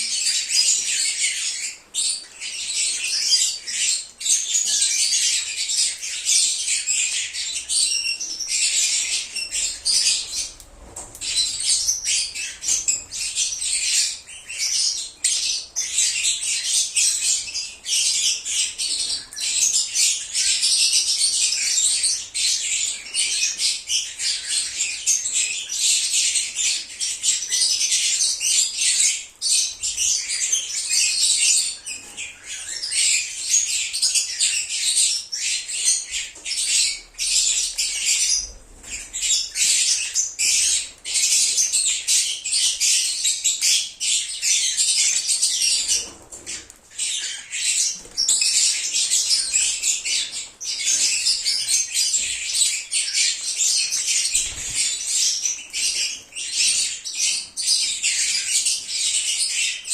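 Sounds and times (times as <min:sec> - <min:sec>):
flock of birds chirping and screeching: 0:00.0 - 0:59.9.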